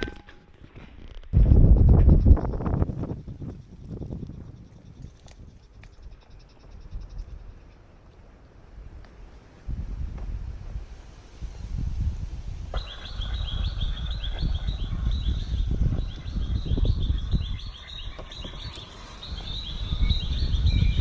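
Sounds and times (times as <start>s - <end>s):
steady low rumble: 1.3s - 21.0s.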